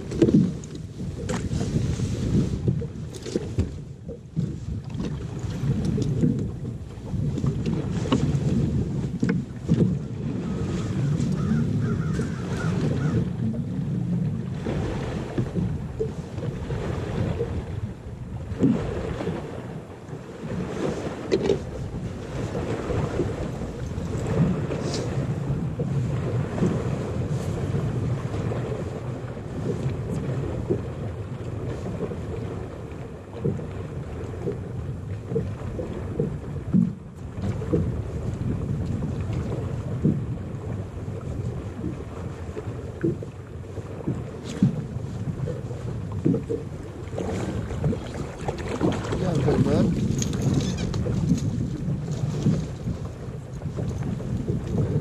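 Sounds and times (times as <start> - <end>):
waves lapping against boat hull: 0.0 - 55.0
wind buffeting microphone: 0.0 - 55.0.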